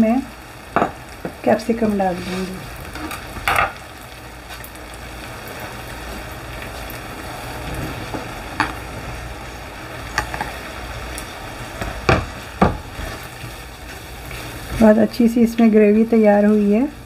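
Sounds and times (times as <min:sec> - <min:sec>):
gravy sizzling in a frying pan: 0:00.0 - 0:17.0.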